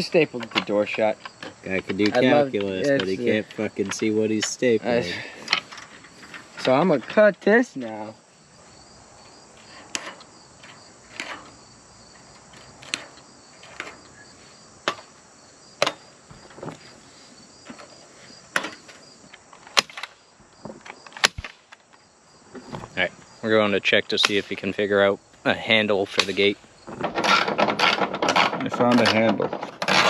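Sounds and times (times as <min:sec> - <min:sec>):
insect chirring: 0:00.0 - 0:30.0.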